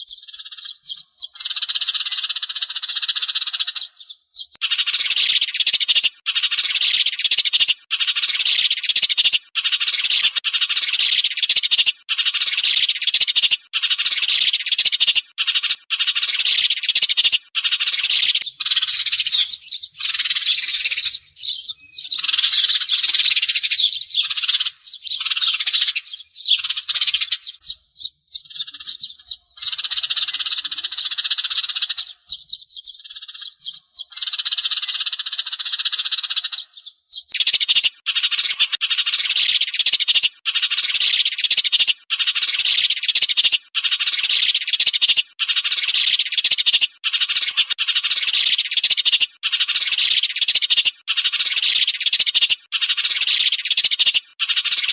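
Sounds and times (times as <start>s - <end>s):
sparrows chirping and chattering: 0.0s - 54.9s.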